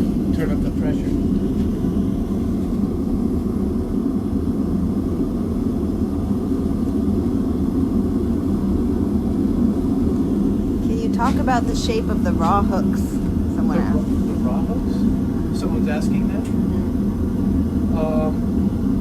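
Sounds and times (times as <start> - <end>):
gas forge burner rushing: 0.0 - 19.0.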